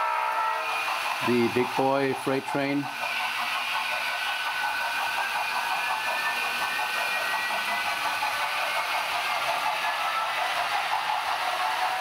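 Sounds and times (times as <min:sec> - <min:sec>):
model steam locomotive sound: 0:00.0 - 0:12.0.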